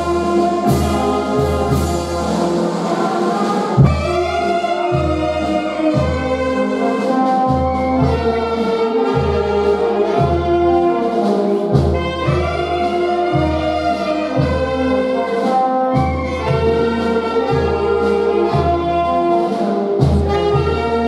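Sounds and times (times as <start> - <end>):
brass band playing slow tune: 0.0 - 21.0.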